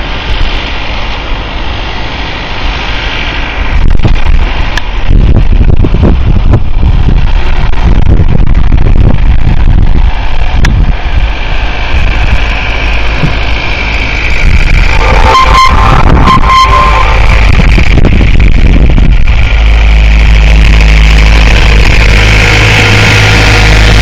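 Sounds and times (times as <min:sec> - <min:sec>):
tractor engine running: 0:00.0 - 0:24.0
wind buffeting microphone: 0:00.0 - 0:24.0.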